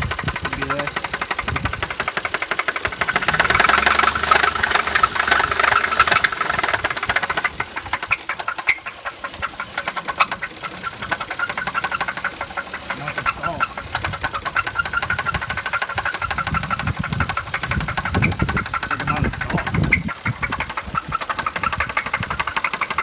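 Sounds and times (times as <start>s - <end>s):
engine running: 0.0s - 23.0s
rapid ticking engine knock: 0.0s - 23.0s.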